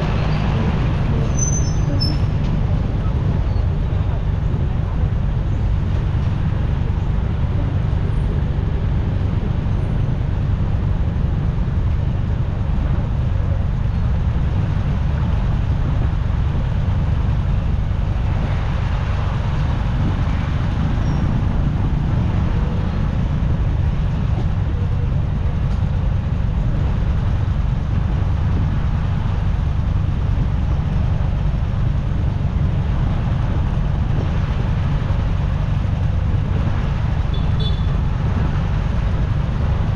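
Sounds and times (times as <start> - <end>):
motorcycle engine and tyre rumble: 0.0 - 39.9
surrounding traffic: 0.0 - 39.9.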